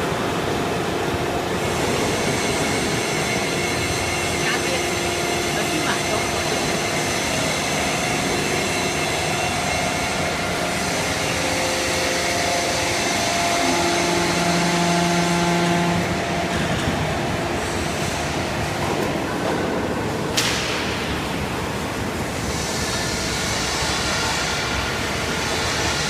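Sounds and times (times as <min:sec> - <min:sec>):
baling machine running: 0:00.0 - 0:26.0
low hum: 0:00.0 - 0:26.0.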